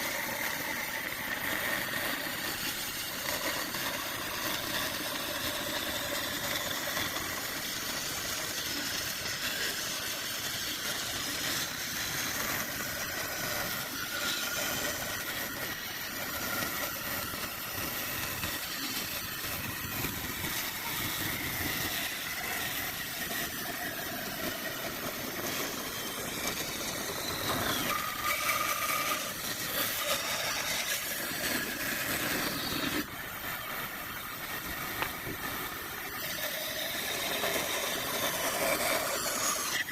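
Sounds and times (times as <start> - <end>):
power tool motor whirring: 0.0 - 39.9.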